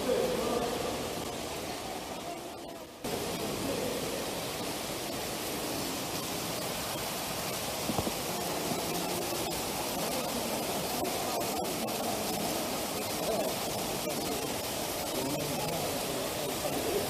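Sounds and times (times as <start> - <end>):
fountain water splashing into pool: 0.0 - 17.0.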